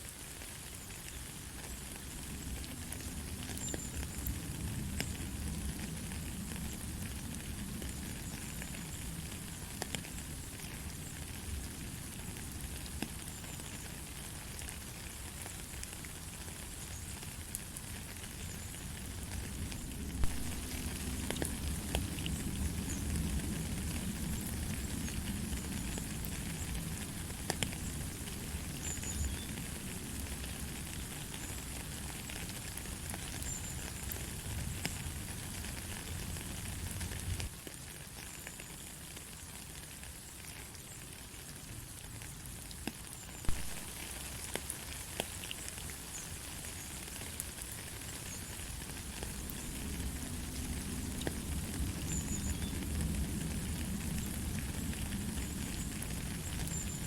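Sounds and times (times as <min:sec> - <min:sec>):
light rain hissing: 0:00.0 - 0:57.0
raindrops ticking: 0:00.8 - 0:39.3, 0:41.6 - 0:57.0.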